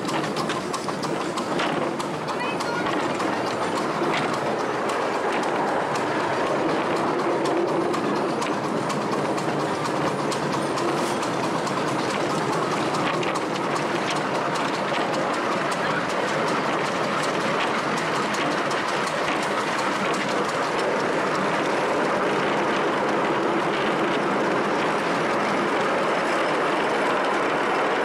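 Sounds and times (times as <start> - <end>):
miniature steam train running: 0.0 - 28.0
wheels clicking over rail joints: 0.0 - 28.0.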